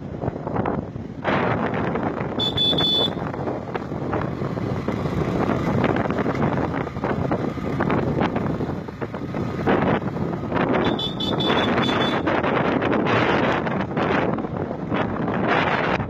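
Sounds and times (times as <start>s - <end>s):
wind buffeting microphone: 0.0s - 2.4s, 3.2s - 11.0s, 11.6s - 16.0s
motorbike riding noise: 0.0s - 16.0s.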